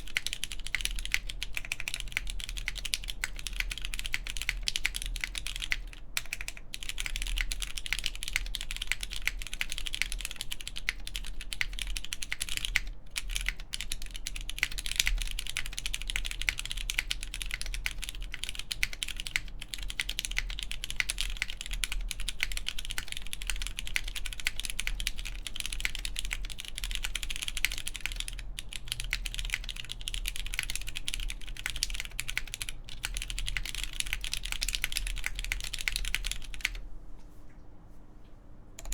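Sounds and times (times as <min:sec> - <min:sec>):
mechanical keyboard typing: 0:00.0 - 0:36.8.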